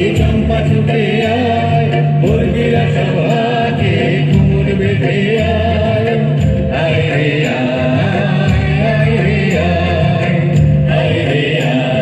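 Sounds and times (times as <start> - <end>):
bass line: 0.0 - 12.0
loud music with singing: 0.0 - 12.0.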